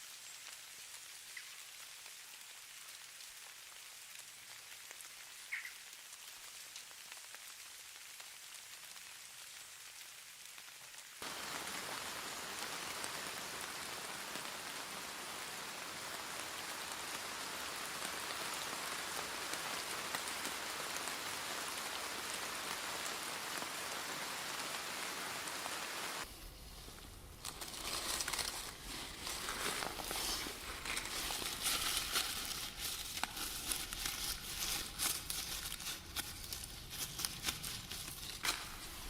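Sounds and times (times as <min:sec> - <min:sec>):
rain hissing: 0:00.0 - 0:39.0.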